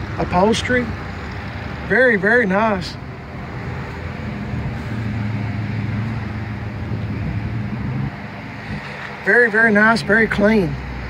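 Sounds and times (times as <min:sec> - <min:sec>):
background traffic: 0:00.0 - 0:11.0
vehicle engine humming: 0:00.0 - 0:11.0.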